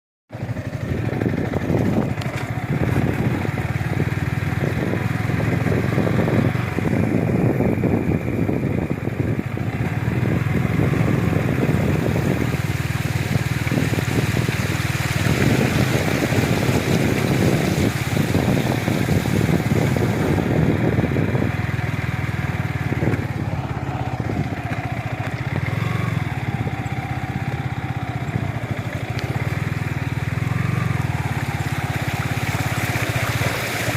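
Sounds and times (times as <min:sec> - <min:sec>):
motorcycle engine running: 0:00.3 - 0:33.9
water rushing and splashing: 0:00.4 - 0:08.6, 0:09.4 - 0:33.9.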